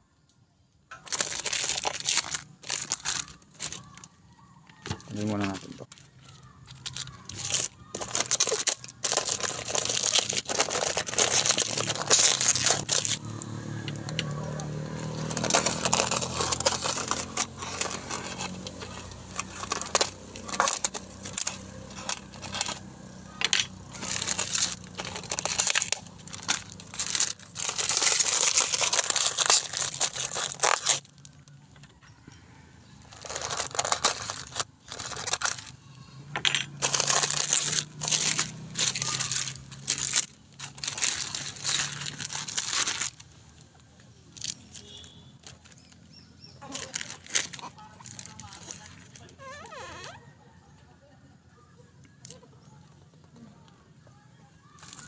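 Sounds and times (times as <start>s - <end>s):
plastic and foil wrapping rustling: 1.0s - 31.9s, 33.0s - 50.2s, 54.6s - 55.0s.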